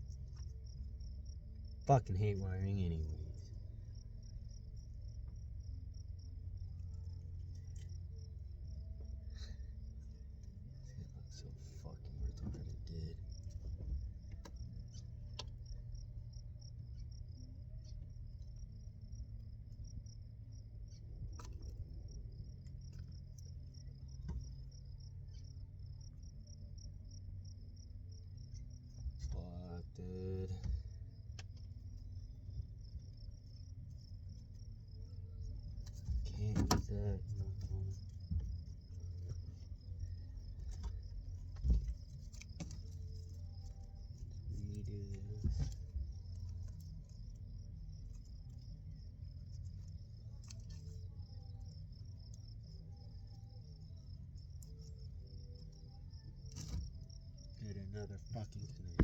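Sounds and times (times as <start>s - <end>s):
crickets chirping: 0.0s - 59.0s
steady low rumble: 0.0s - 59.0s.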